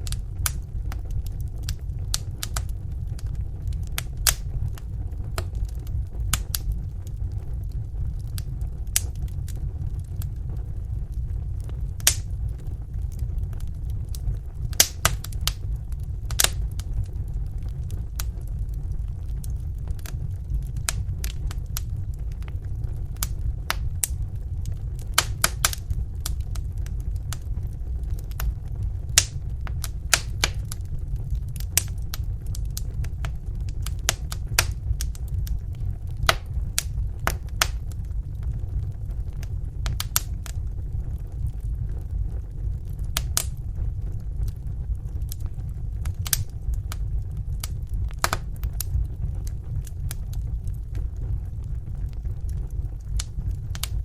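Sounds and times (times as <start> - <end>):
burning logs crackling and popping: 0.0 - 54.0
rumble of flames: 0.0 - 54.0.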